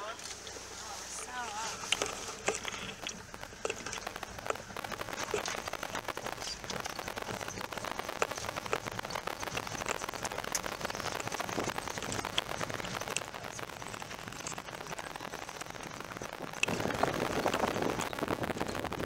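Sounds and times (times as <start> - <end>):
gravel crackling under tyres: 0.0 - 19.0.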